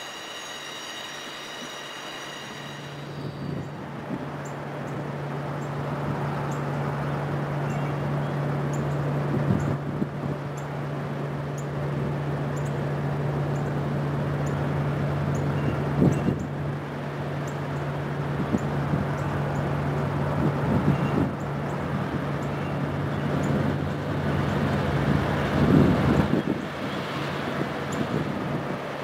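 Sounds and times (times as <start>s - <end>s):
diesel locomotives droning: 0.0s - 29.0s.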